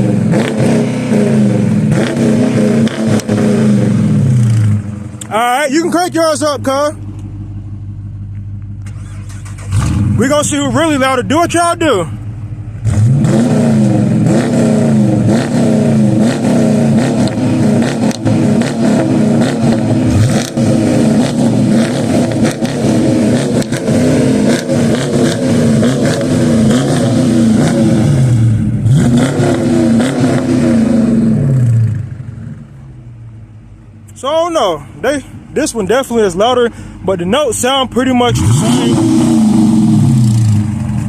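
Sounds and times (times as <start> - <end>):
car engine revving: 0.0 - 33.6, 37.9 - 41.0.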